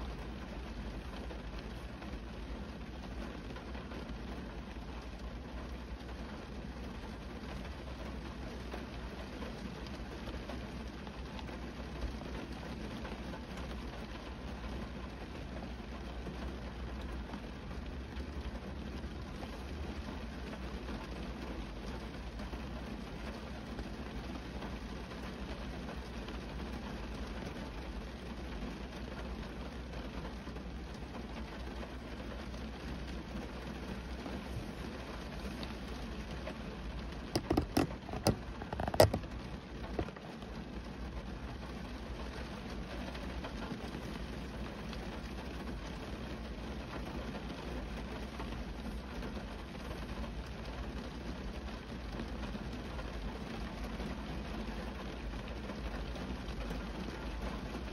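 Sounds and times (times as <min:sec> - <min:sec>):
rain pattering on a car: 0:00.0 - 0:57.9.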